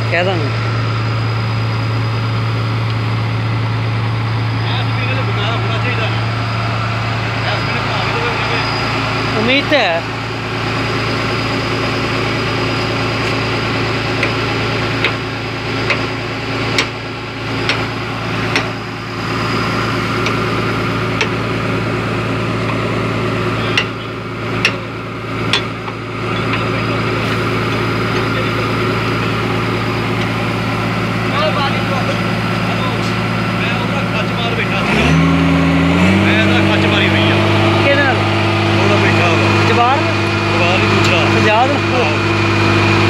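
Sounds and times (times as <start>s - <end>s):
heavy diesel engines running: 0.0s - 43.0s.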